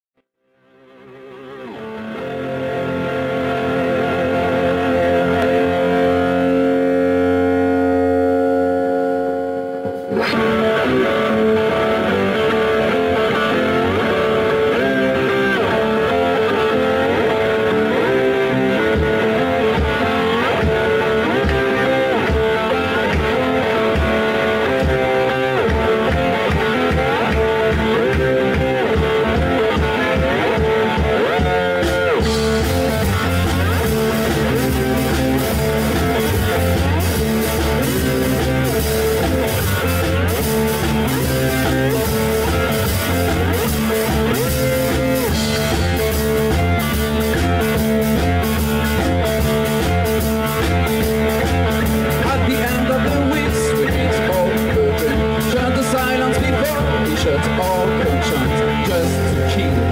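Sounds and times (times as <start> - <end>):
electric bass: 0.4 - 59.9
lap steel guitar sliding notes: 0.6 - 59.9
drum kit: 2.4 - 8.3, 9.7 - 59.9.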